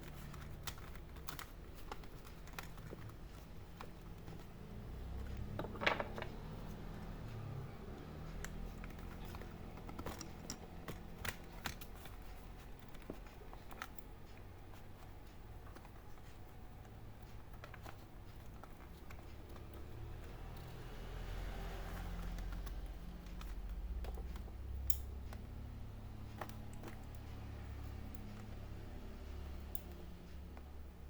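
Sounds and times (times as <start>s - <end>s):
clicks and taps on laptop parts: 0.0s - 31.0s.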